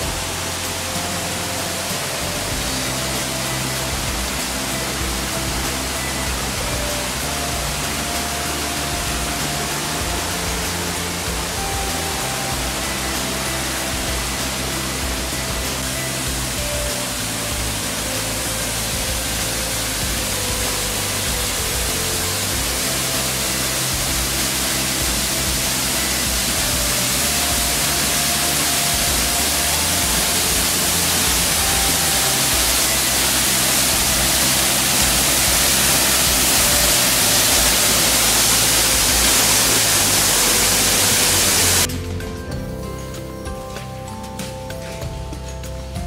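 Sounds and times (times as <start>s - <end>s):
waterfall rushing: 0.0s - 42.0s
faint music: 0.0s - 46.0s.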